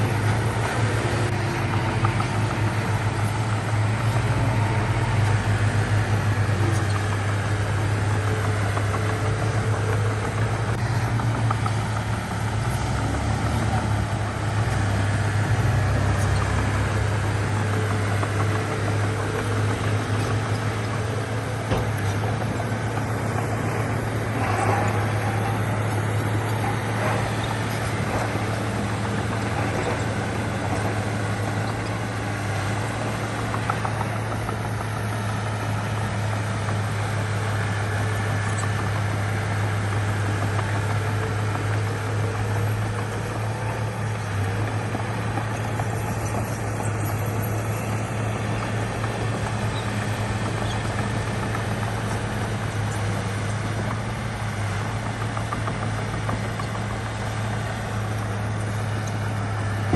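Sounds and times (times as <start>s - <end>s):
diesel machinery engine hum: 0.0s - 59.9s.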